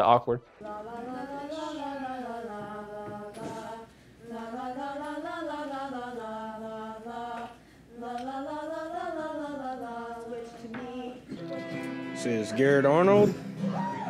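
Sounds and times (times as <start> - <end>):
girls singing a cappella: 0.6 - 13.3.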